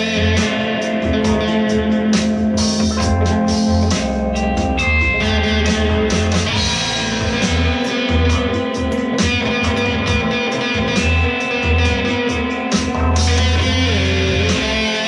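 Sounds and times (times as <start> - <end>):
guitar music with pulsing bass: 0.0 - 15.0.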